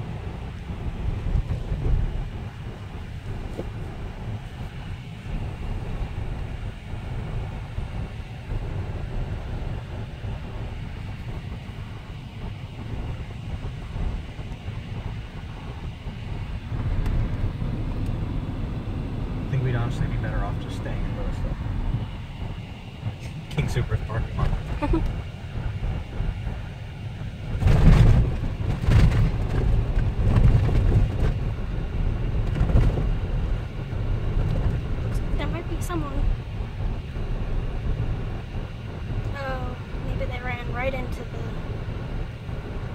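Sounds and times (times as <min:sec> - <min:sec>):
engine and road noise in car: 0:00.0 - 0:42.9.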